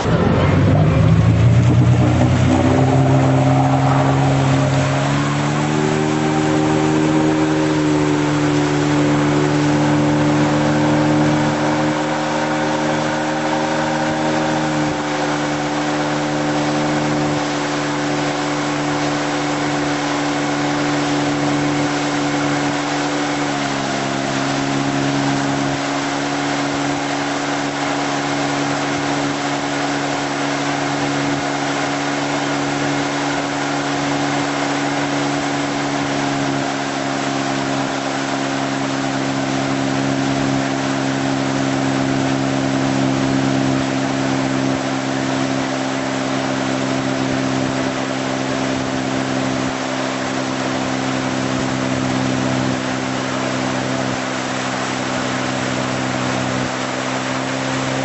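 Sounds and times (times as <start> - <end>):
boat engine running: 0.0 - 58.0
hiss of water and wind: 0.0 - 58.0.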